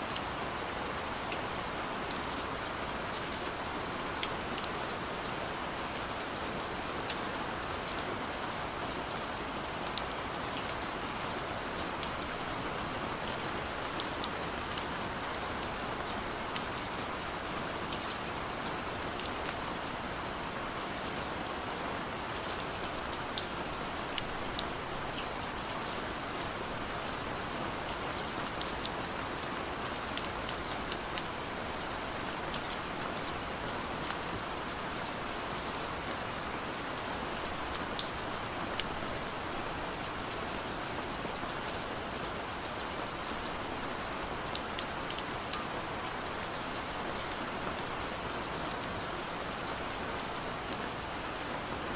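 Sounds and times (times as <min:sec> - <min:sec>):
gentle rain hiss: 0:00.0 - 0:51.9.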